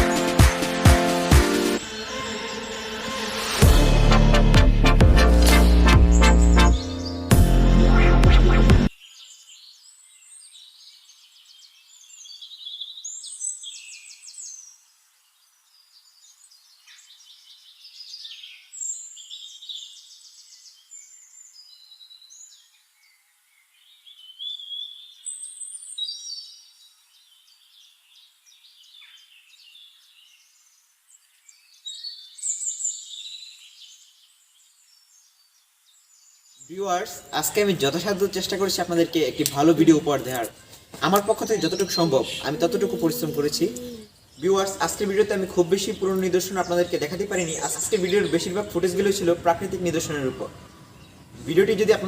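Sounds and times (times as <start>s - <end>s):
birds chirping and trilling: 1.6s - 4.1s, 5.3s - 52.0s.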